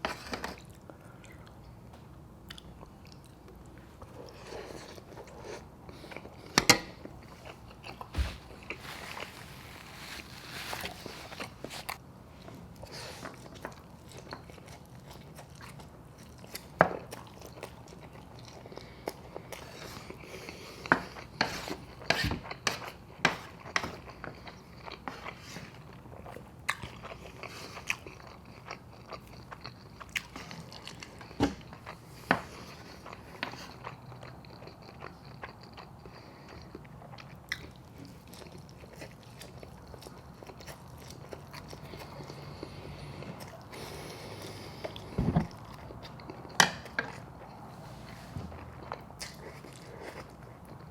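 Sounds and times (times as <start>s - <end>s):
chewing with mouth smacks: 0.2s - 9.3s, 12.8s - 47.7s, 48.6s - 50.9s.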